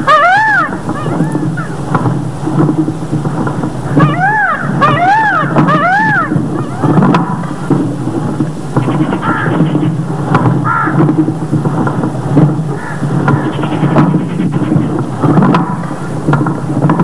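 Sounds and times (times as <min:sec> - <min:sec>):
bird calling: 0:00.0 - 0:03.2, 0:03.8 - 0:11.4, 0:12.6 - 0:16.2
low background noise: 0:00.0 - 0:17.0.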